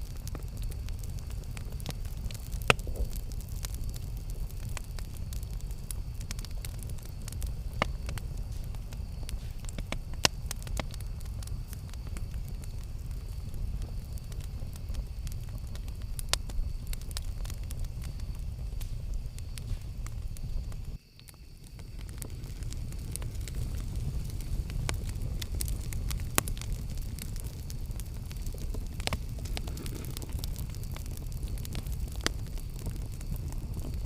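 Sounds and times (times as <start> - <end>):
campfire flame rushing: 0.0 - 34.0
fire crackles and pops: 0.0 - 34.0.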